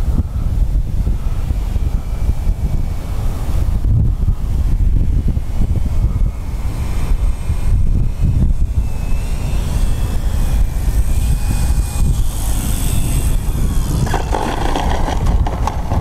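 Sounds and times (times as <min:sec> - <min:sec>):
model plane motor whining: 0:00.0 - 0:16.0
wind rumble on microphone: 0:00.0 - 0:16.0.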